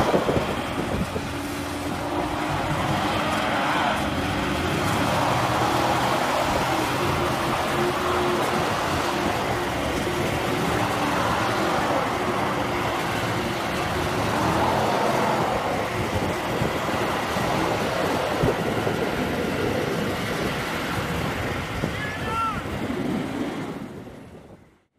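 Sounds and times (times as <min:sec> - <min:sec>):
truck engines running under load: 0:00.0 - 0:24.9.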